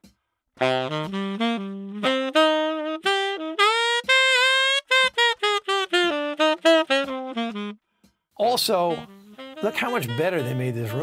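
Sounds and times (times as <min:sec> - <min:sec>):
tenor saxophone melody: 0:00.6 - 0:11.0.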